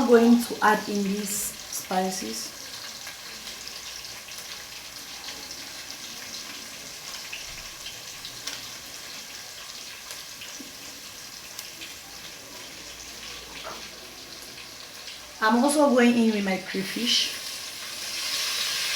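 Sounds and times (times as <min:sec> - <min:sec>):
oil sizzling in a pot: 0:00.0 - 0:18.9.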